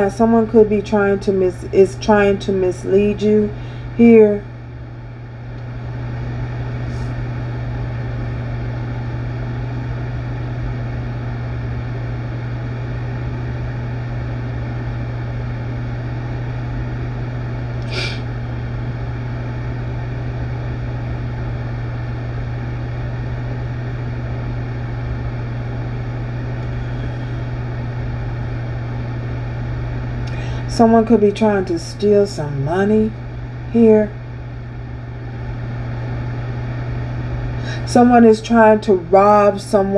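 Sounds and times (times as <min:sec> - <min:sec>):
low hum: 0:00.0 - 0:39.9.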